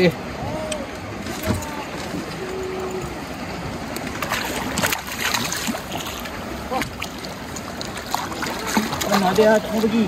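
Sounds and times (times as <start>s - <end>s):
wind and sea water rushing: 0.0s - 10.0s.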